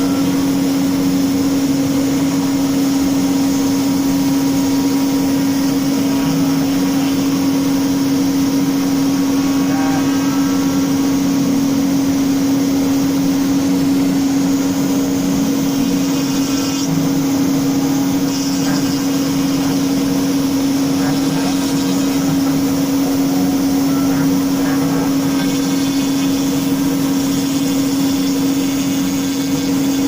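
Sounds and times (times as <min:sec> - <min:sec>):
router spindle cutting wood: 0:00.0 - 0:30.0.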